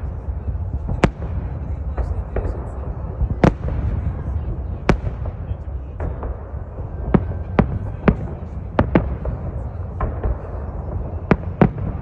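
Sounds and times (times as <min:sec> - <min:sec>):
fireworks bangs: 0:00.0 - 0:12.0
steady low rumble: 0:00.0 - 0:12.0.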